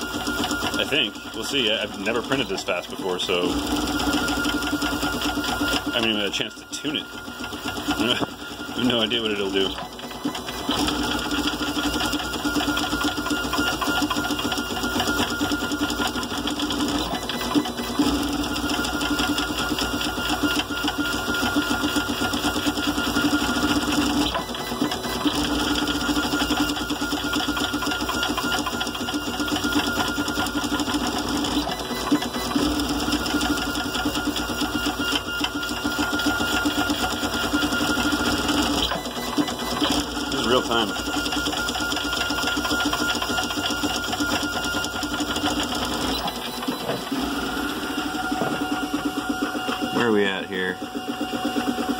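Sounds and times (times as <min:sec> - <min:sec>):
printer whine: 0:00.0 - 0:51.9
three-d printer motors buzzing: 0:00.0 - 0:51.9.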